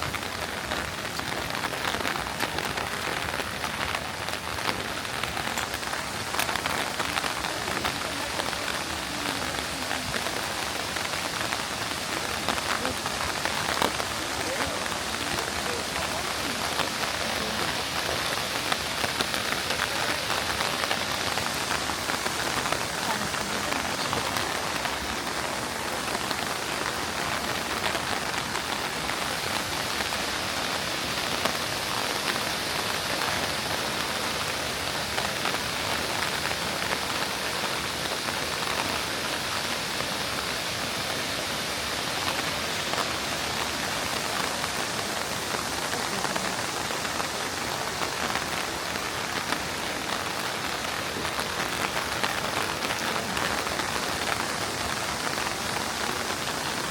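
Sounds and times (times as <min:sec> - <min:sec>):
falling water hissing: 0:00.0 - 0:56.9.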